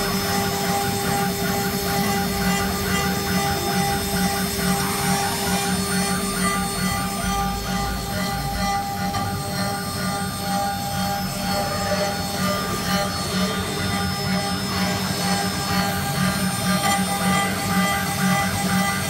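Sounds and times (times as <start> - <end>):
high electric spindle whine: 0.0 - 19.0.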